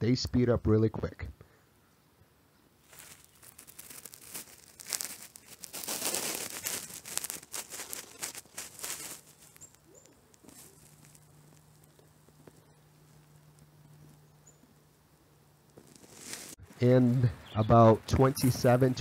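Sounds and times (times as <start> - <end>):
rustling and crinkling of leaves: 2.7 - 19.0.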